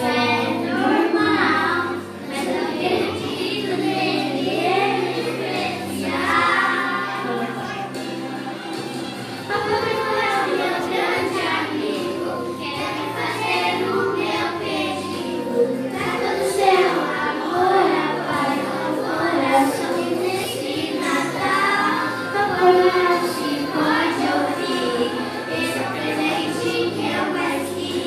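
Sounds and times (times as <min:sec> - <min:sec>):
children singing: 0:00.0 - 0:28.0
musical accompaniment: 0:00.0 - 0:28.0.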